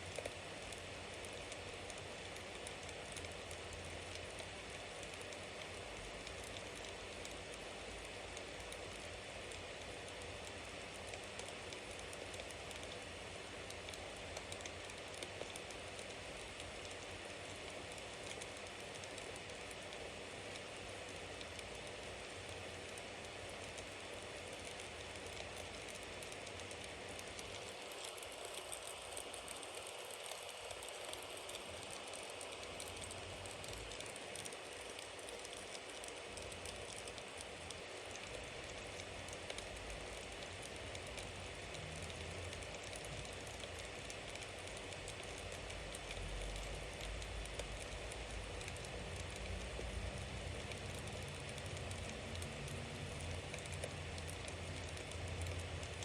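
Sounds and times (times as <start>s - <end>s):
bonfire crackling: 0.1s - 56.0s.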